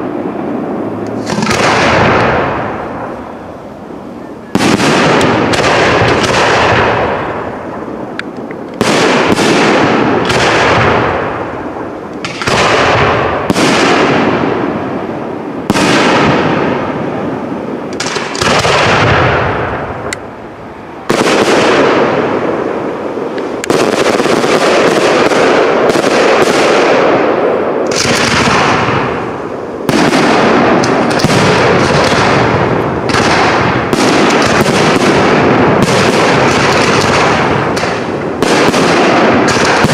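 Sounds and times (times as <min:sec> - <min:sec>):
fireworks bursting with echo: 0:00.0 - 0:39.9.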